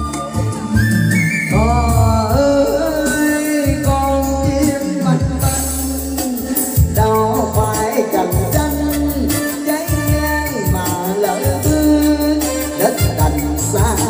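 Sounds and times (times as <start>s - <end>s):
karaoke backing music: 0.0s - 14.0s
man singing into microphone: 0.0s - 14.0s.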